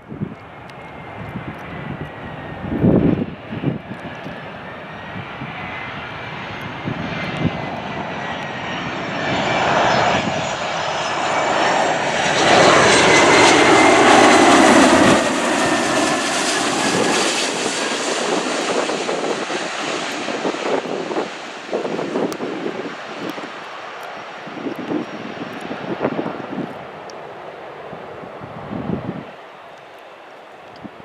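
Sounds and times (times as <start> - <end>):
jet airliner engines roaring: 0.0 - 31.0.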